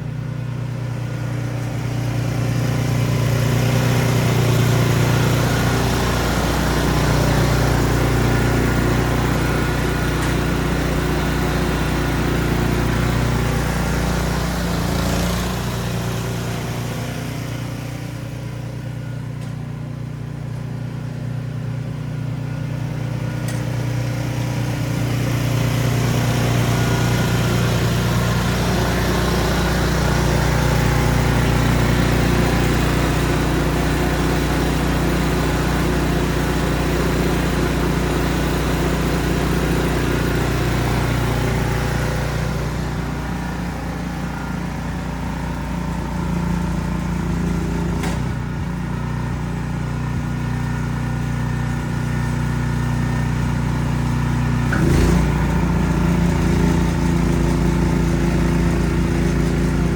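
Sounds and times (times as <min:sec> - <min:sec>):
snow blower engine running: 0:00.0 - 0:59.9.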